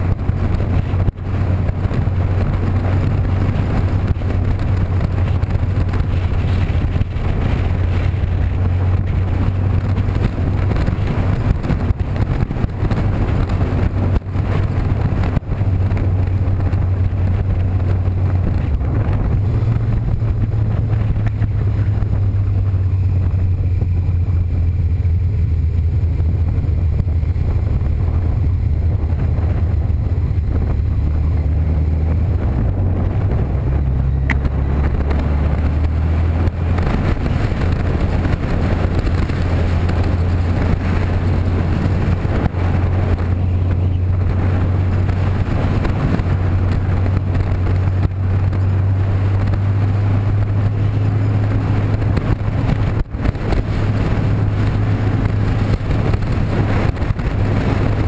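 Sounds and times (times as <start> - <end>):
road and wind noise: 0.0 - 58.0
vehicle engine drone: 0.0 - 58.0.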